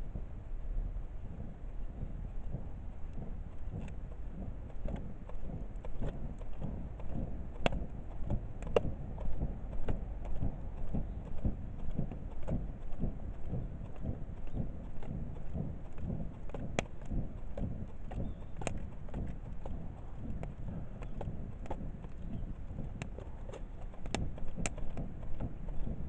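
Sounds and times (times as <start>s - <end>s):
low fire rumble: 0.0s - 26.0s
wood fire crackling and popping: 3.0s - 26.0s.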